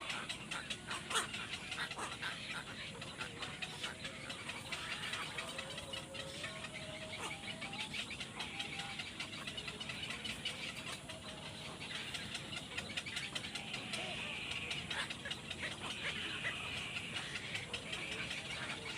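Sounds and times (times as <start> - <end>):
young birds calling: 0.0 - 18.9.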